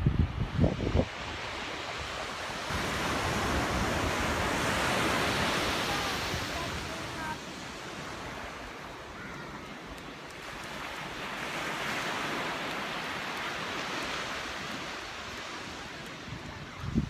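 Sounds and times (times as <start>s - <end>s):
waves breaking on beach: 0.0s - 17.0s.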